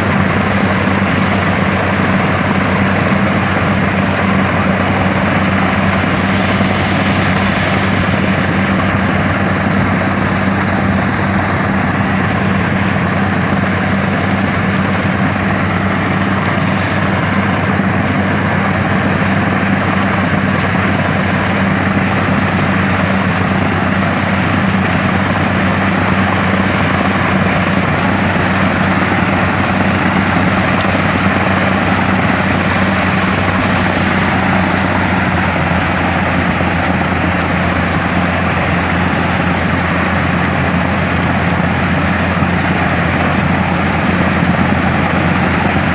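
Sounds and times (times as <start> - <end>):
drilling machine engine drone: 0.0 - 45.9.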